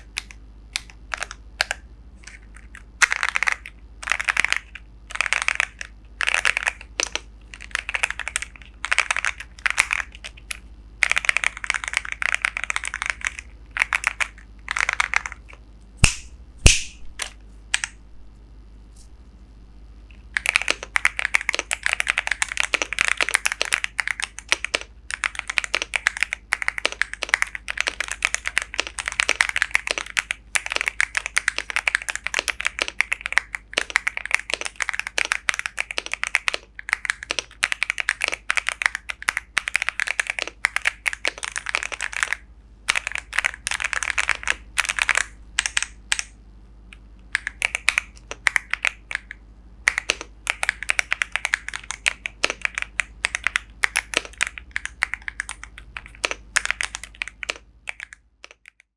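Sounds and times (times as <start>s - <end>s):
mechanical keyboard typing: 0.0s - 15.6s, 20.3s - 58.9s.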